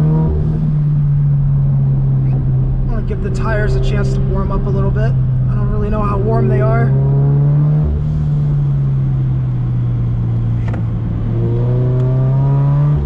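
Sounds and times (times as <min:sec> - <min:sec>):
car engine accelerating: 0:00.0 - 0:13.0
constant low drone: 0:00.0 - 0:13.0.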